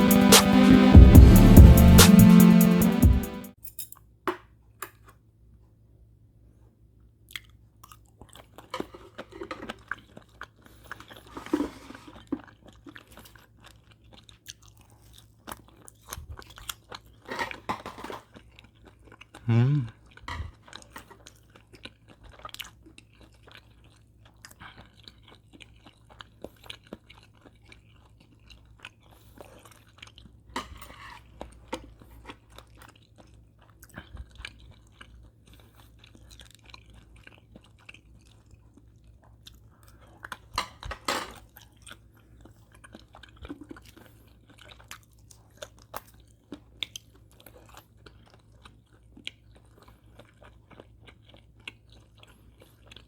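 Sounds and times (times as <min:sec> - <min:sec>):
person chewing crunchy food: 0:07.3 - 0:53.0.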